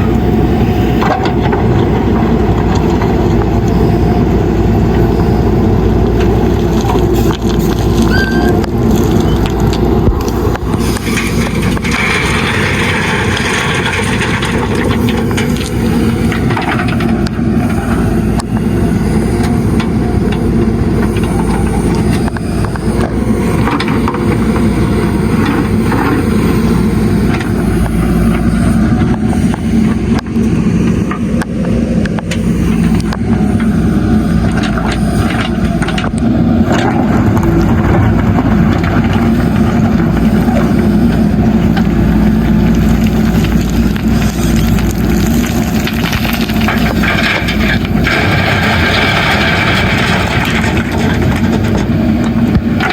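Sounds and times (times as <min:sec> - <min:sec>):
diesel engine under load: 0:00.0 - 0:52.9
gravel clattering: 0:00.0 - 0:52.9.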